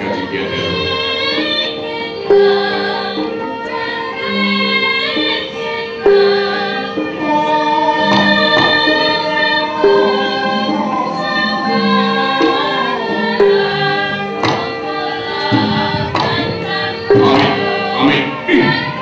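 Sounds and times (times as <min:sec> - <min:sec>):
gamelan music: 0:00.0 - 0:19.0
voices singing: 0:00.0 - 0:19.0.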